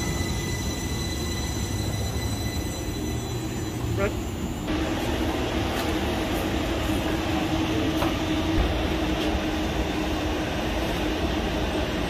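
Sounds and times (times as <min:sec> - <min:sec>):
streetcar rumbling: 0:00.0 - 0:12.0.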